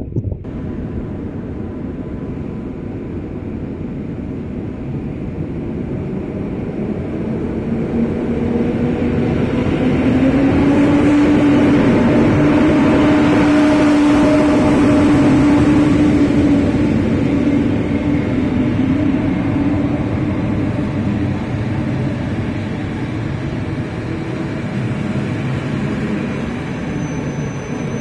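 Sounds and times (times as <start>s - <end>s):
electric train rumble and hum: 0.0s - 28.0s.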